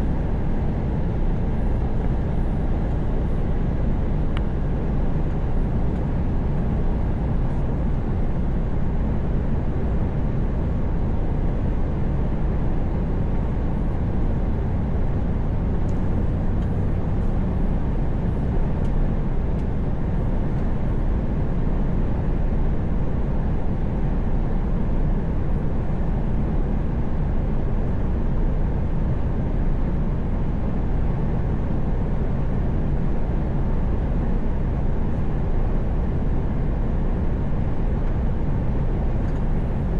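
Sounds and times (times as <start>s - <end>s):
truck engine and tyre drone: 0.0s - 39.9s.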